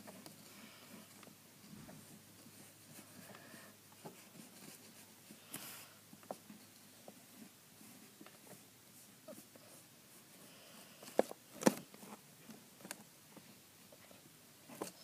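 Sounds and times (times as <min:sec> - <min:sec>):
scratching of colouring in: 0:00.0 - 0:12.6.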